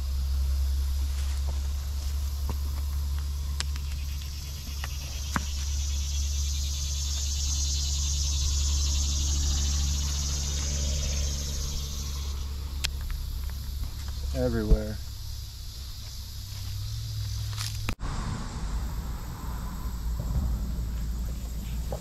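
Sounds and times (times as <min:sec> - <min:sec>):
insects buzzing: 0:00.0 - 0:22.0
low rumble: 0:00.0 - 0:22.0.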